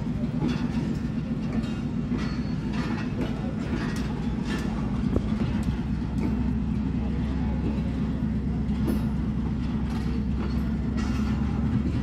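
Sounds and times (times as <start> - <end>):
train low rumble: 0.0 - 12.0
train wheels clicking over rail joints: 0.0 - 12.0.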